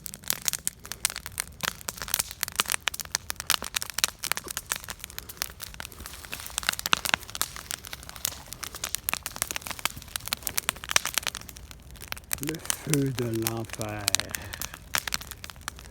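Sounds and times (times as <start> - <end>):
campfire crackling: 0.0 - 15.9.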